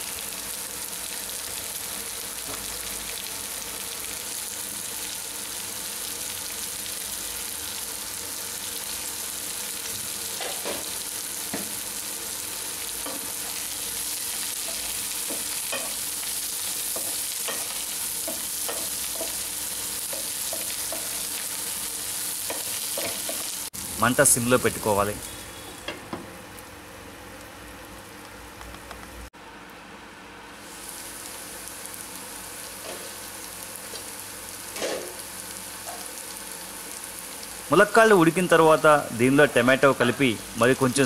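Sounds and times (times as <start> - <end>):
vegetables sizzling in hot oil: 0.0 - 28.2, 30.6 - 41.0.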